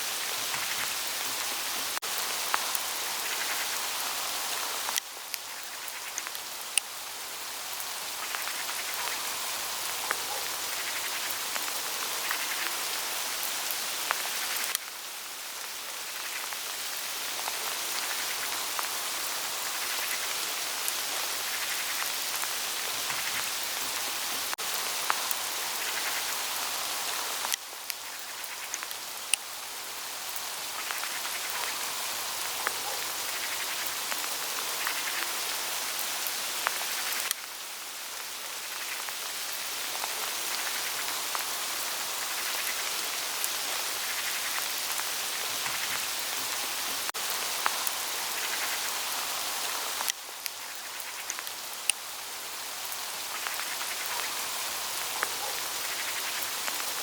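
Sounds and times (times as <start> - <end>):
hail pattering on leaves: 0.1 - 57.0.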